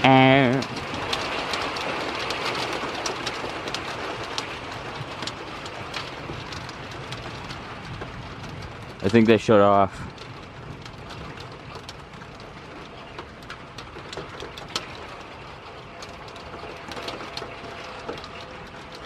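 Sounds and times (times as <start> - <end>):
drops ticking on surfaces: 0.0 - 19.0
steady rainfall: 0.0 - 19.0.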